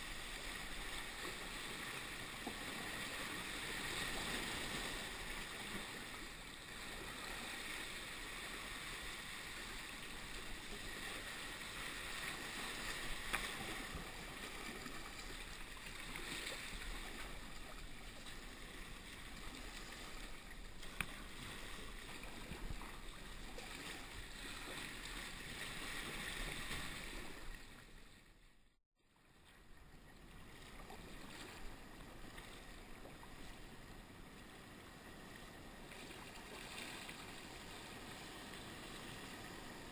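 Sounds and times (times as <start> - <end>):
water sloshing around kayak: 0.0 - 39.9.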